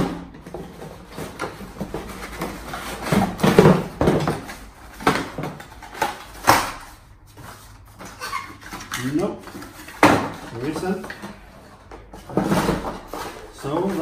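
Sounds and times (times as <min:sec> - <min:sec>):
cardboard scraping and rustling: 0:00.4 - 0:14.0.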